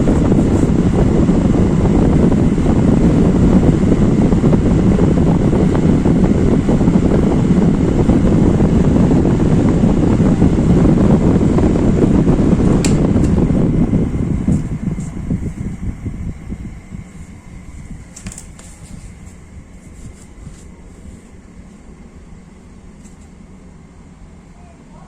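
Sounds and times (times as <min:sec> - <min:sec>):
exhaust fan rushing air: 0:00.0 - 0:25.0.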